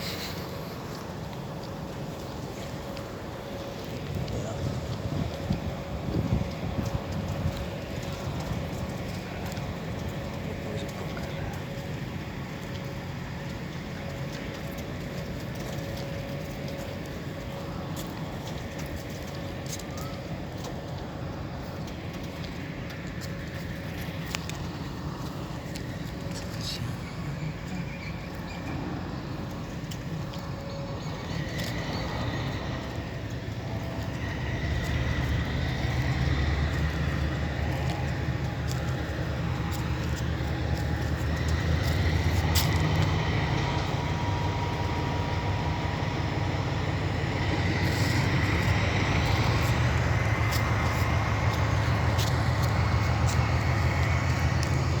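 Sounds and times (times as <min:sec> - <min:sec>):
locomotive rumbling: 0:00.0 - 0:55.0.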